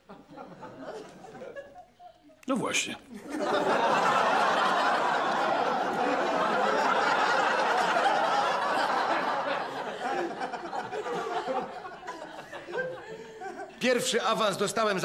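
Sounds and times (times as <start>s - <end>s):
audience laughter: 0.0s - 2.0s, 3.1s - 13.8s.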